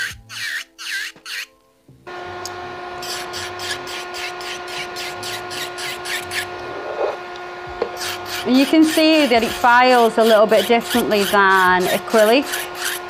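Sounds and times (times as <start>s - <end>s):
bit rasping over nail: 0.0s - 1.6s, 2.4s - 6.6s, 7.8s - 13.0s
electric nail file whine: 0.0s - 13.0s.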